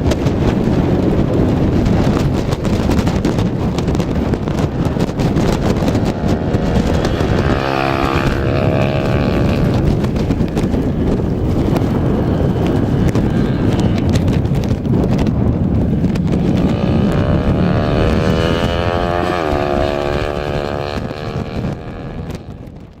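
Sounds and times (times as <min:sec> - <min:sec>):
racing engine rumble: 0:00.0 - 0:23.0
wind noise: 0:00.0 - 0:23.0.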